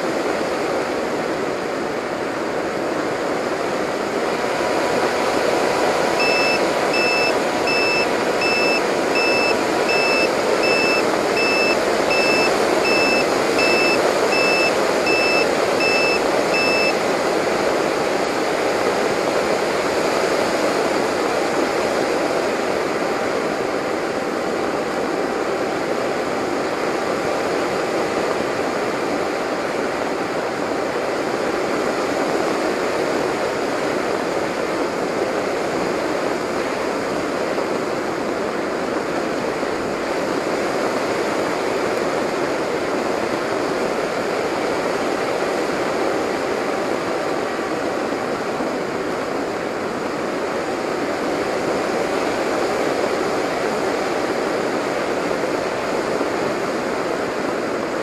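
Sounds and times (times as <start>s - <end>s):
faint motor whine: 0.0s - 58.0s.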